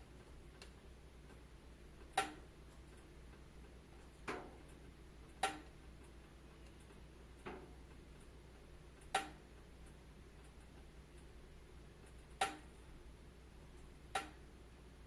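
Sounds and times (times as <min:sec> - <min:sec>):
faint low background noise: 0:00.0 - 0:15.0.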